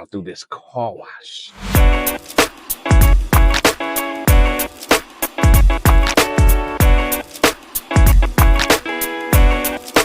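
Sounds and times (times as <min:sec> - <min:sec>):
hi-hat ticks: 0:01.8 - 0:10.0.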